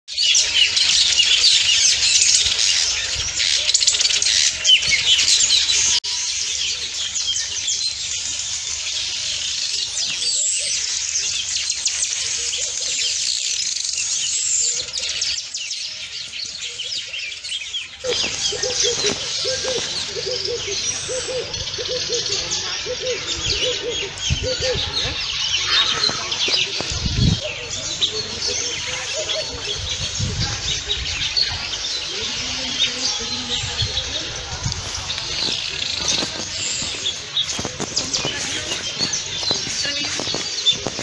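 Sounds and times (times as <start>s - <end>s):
lower repeated bird calls: 0.1s - 41.0s
small birds chirping: 0.1s - 41.0s.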